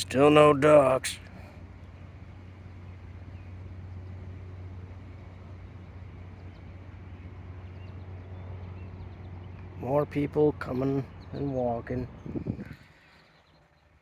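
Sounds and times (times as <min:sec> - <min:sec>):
low rumble of distant traffic: 0:00.0 - 0:14.0.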